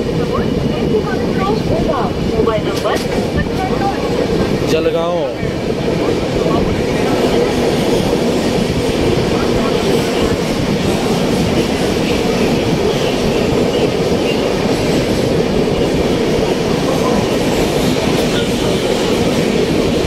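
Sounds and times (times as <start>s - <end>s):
train wheels running on rails: 0.0s - 20.0s.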